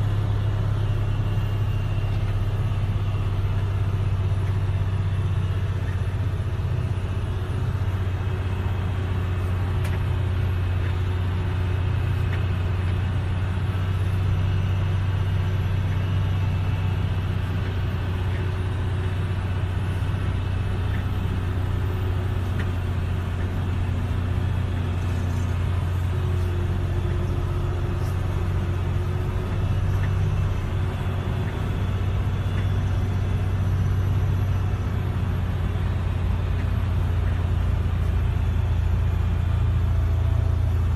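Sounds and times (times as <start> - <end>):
low engine rumble: 0.0 - 40.9.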